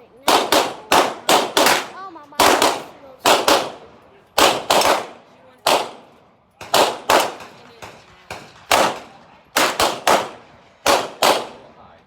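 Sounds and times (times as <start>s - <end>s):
echoing gunshots: 0.2s - 11.8s.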